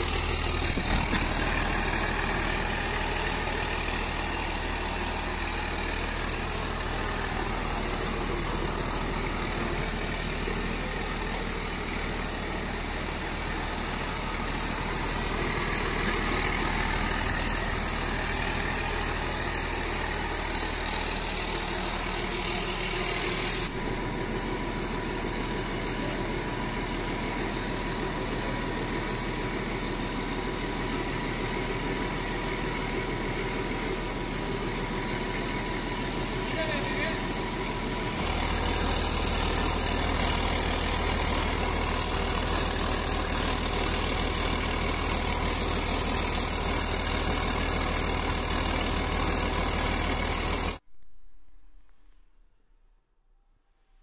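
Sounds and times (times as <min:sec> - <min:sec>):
diesel engine idling: 0:00.0 - 0:50.8.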